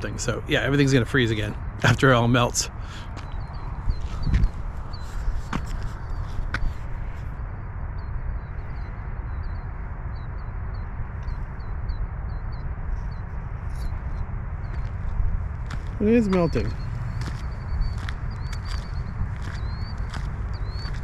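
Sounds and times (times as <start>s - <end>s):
low outdoor background noise: 0.0s - 21.0s.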